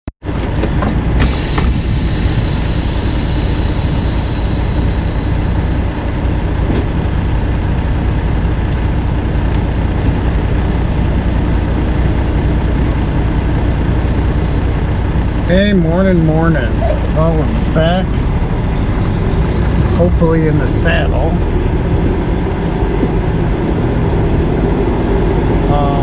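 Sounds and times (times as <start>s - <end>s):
diesel truck engine running: 0.2s - 26.0s.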